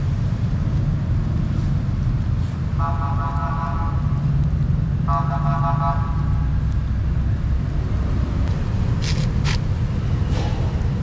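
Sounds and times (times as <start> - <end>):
motor vehicles rumbling: 0.0 - 11.0.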